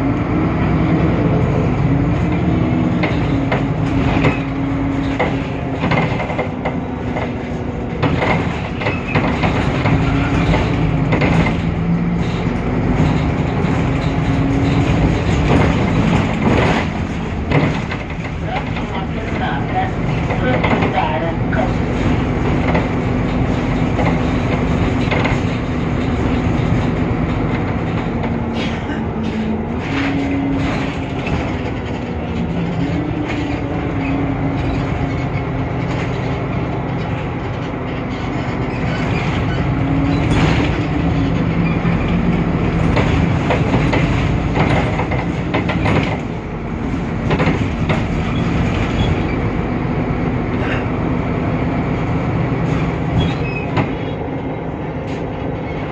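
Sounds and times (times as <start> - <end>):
bus diesel engine humming: 0.0 - 55.9
bodywork rattles and knocks: 1.4 - 55.9.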